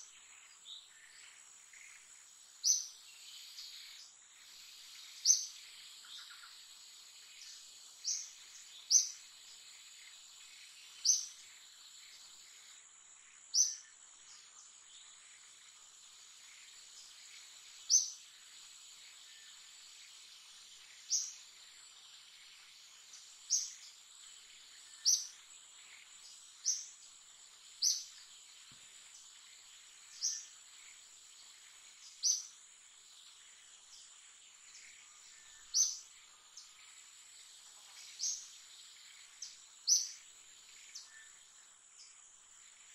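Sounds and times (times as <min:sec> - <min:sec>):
bird chirping: 0:00.0 - 0:42.9
faint high-pitched insect drone: 0:00.0 - 0:42.9.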